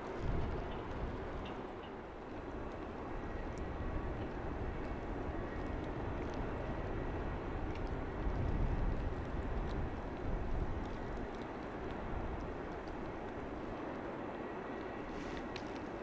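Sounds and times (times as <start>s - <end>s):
gusty wind rumble: 0.0s - 16.0s.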